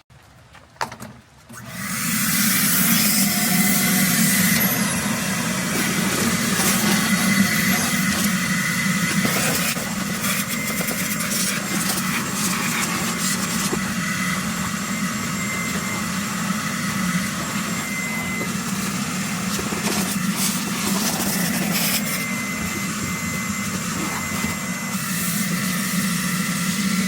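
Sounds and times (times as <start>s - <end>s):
small engine humming: 1.6s - 27.0s.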